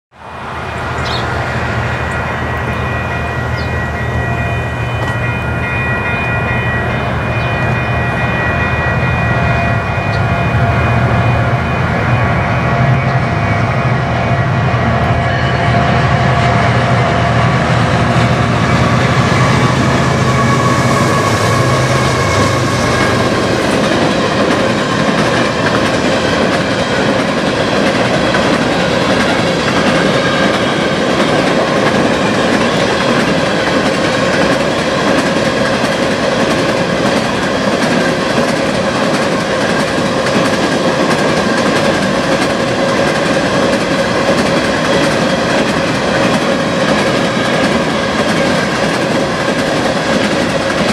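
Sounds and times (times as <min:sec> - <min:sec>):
diesel locomotive drone: 0:00.1 - 0:50.9
train wheels rumbling and clattering: 0:00.8 - 0:50.9.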